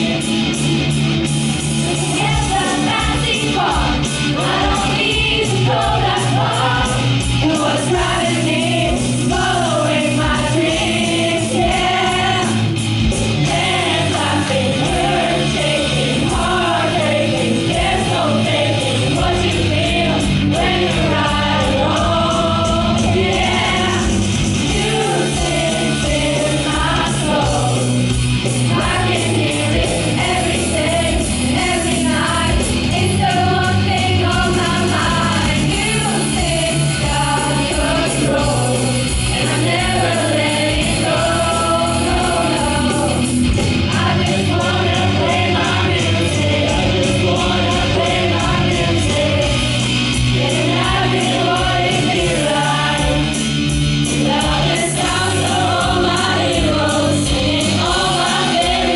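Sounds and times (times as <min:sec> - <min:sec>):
band accompaniment with steady beat: 0:00.0 - 0:58.9
group of voices singing: 0:01.6 - 0:58.9.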